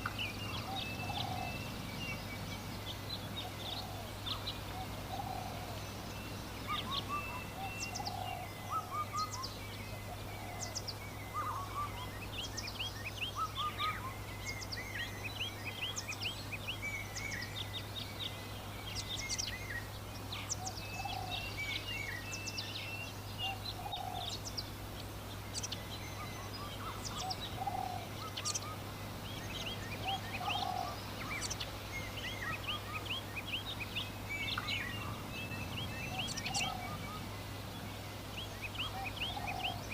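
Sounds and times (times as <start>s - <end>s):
low bird call: 0.0s - 24.6s, 25.4s - 37.6s, 38.4s - 39.9s
small birds chirping: 0.0s - 39.9s.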